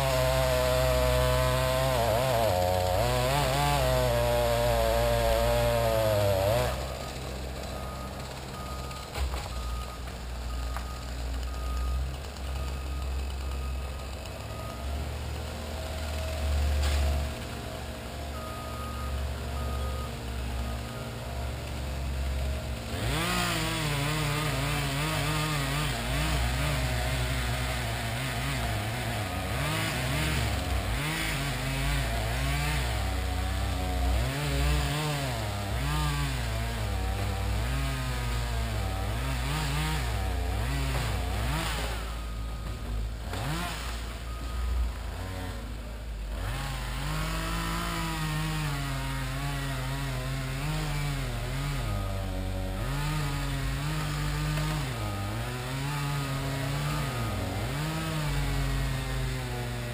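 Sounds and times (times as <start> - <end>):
engine revving: 0.0 - 59.9.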